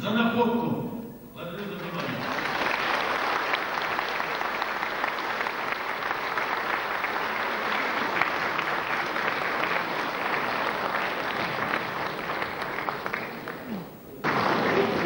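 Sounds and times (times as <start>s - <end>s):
audience applauding: 1.7s - 15.0s.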